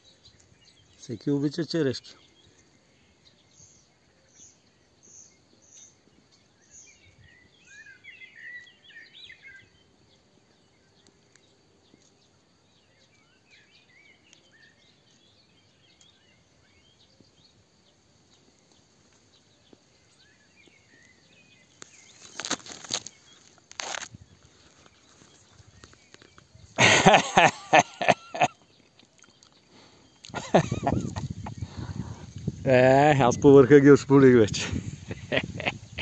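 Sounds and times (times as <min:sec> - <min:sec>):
songbird twittering and chirping: 0:00.0 - 0:36.0.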